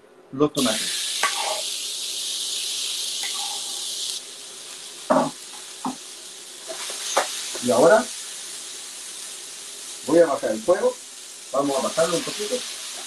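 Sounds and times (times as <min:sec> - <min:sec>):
tomatoes sizzling in a frying pan: 0:00.6 - 0:13.0.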